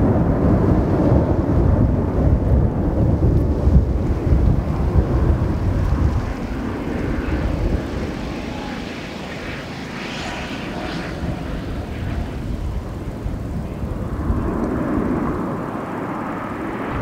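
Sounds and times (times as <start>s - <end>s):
jet airliner flying overhead: 0.0s - 17.0s
wind buffeting microphone: 0.0s - 17.0s.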